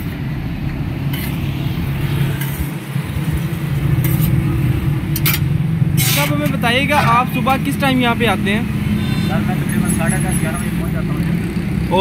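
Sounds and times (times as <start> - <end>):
street traffic engine drone: 0.0 - 12.0.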